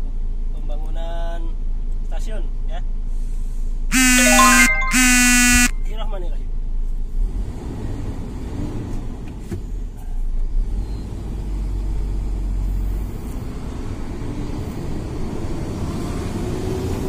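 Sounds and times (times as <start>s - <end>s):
vehicle engine and road rumble: 0.0s - 4.0s, 5.8s - 17.0s.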